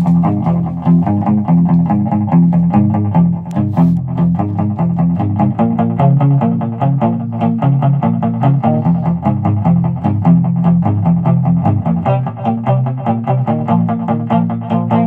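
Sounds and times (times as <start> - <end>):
electric guitar boogie riff: 0.0 - 15.0.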